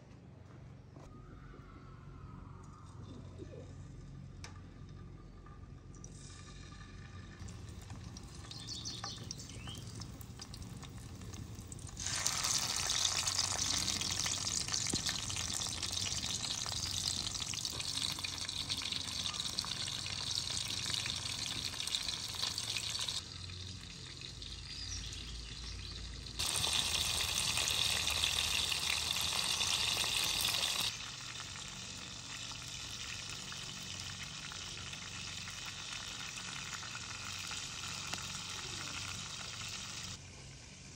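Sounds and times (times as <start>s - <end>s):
food sizzling in hot oil: 6.1s - 40.2s.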